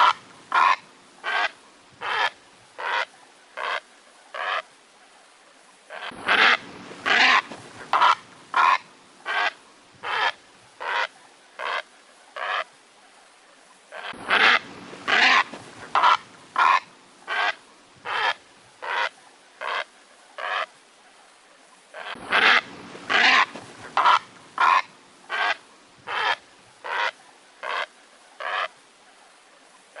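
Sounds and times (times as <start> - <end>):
heron calling: 0.0 - 4.6, 5.9 - 11.8, 12.4 - 12.7, 13.9 - 20.7, 22.0 - 28.7.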